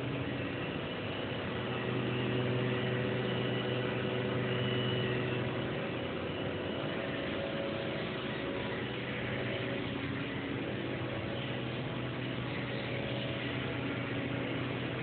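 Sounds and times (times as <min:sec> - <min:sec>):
machine humming: 0:00.0 - 0:15.0
machine whining tones: 0:00.0 - 0:15.0.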